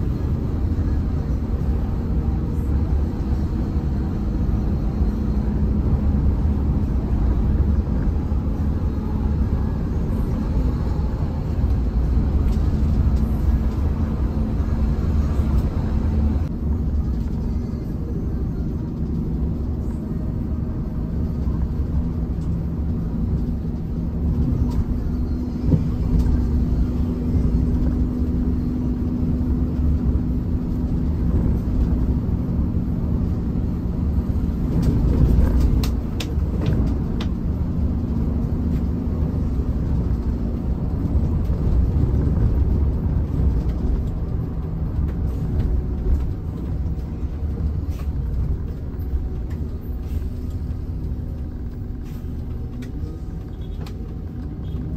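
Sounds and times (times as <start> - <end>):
bus engine and road rumble: 0.0 - 54.9.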